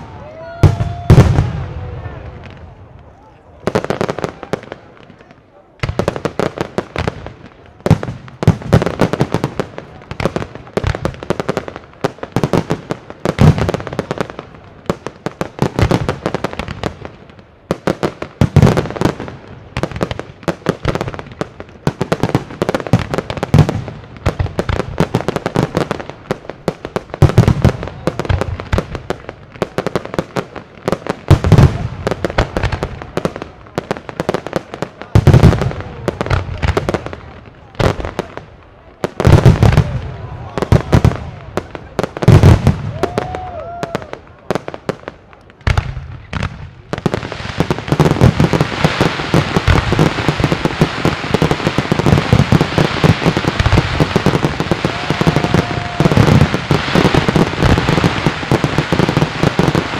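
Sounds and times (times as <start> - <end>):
firework bangs: 0.0 - 59.9
fireworks crackling and popping: 0.0 - 59.9.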